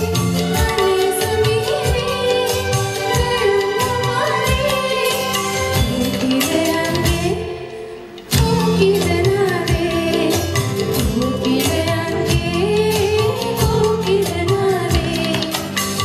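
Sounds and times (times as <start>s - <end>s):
drum beats: 0.0s - 16.0s.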